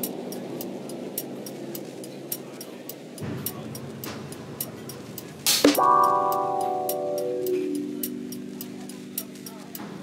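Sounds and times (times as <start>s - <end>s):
background music with high ticks: 0.0s - 10.0s.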